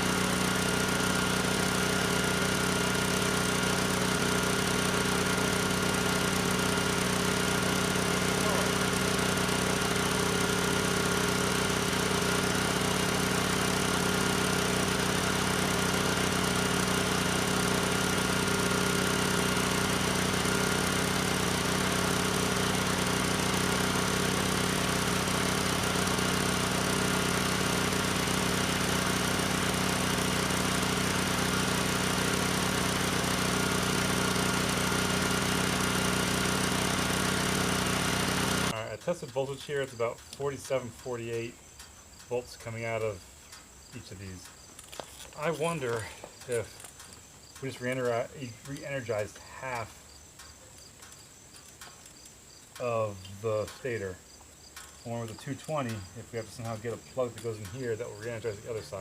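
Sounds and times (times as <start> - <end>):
portable generator engine running: 0.0 - 50.0, 51.0 - 54.2, 54.8 - 59.0.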